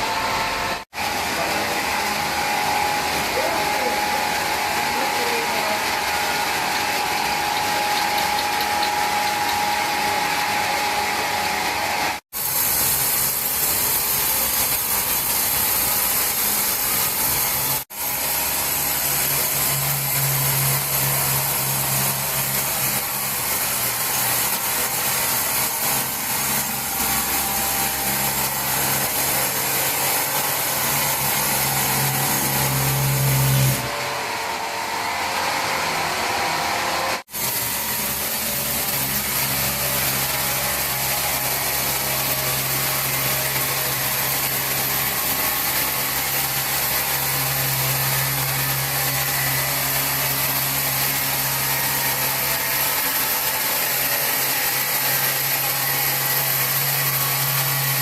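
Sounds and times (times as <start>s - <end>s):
power saw cutting wood: 0.0s - 58.0s.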